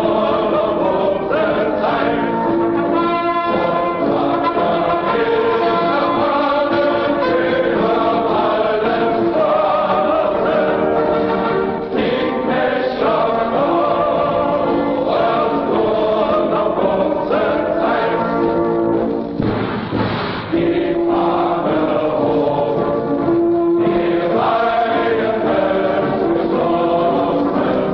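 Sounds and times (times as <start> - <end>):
choir singing long held notes: 0.0 - 19.1, 20.5 - 27.9.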